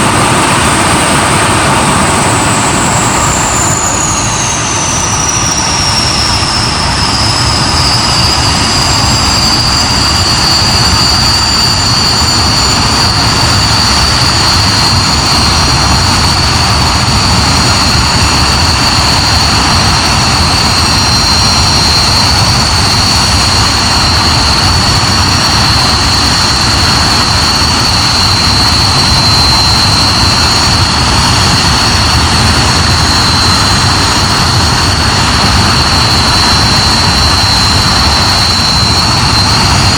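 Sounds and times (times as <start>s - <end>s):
high compressor whine: 0.0s - 39.9s
jet engine rush: 0.0s - 39.9s.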